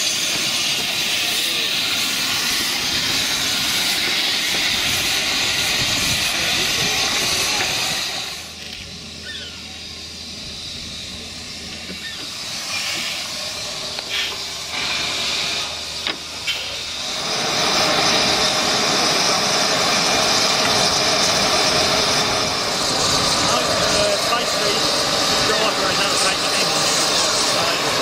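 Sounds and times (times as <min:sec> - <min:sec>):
steam hissing: 0:00.0 - 0:28.0.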